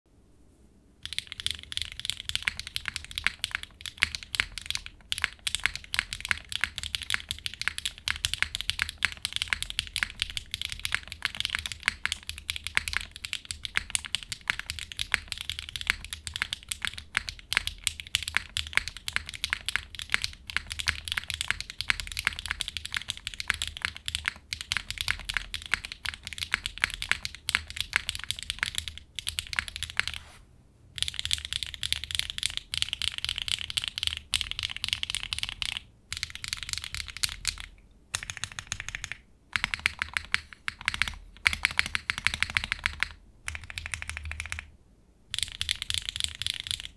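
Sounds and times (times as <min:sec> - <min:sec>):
mechanical keyboard typing: 0:01.0 - 0:30.2, 0:31.0 - 0:44.7, 0:45.3 - 0:46.9.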